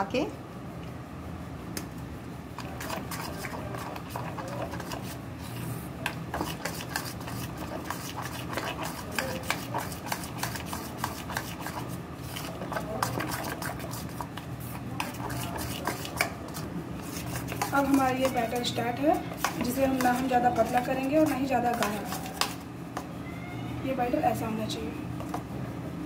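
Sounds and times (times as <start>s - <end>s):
spoon beating batter in steel bowl: 2.6s - 23.1s, 24.0s - 25.5s.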